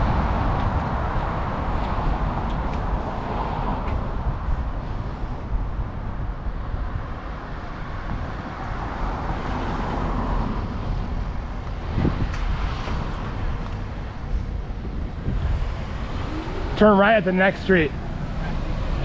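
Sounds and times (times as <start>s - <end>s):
wind rumble on microphone: 0.0s - 16.9s
city traffic: 0.0s - 19.0s.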